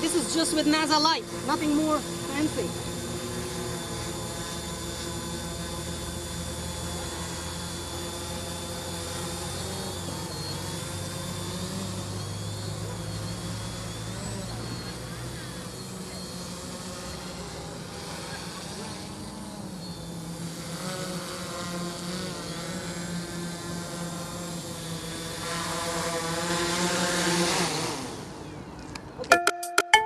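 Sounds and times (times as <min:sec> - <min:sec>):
drone propellers humming: 0:00.0 - 0:29.5.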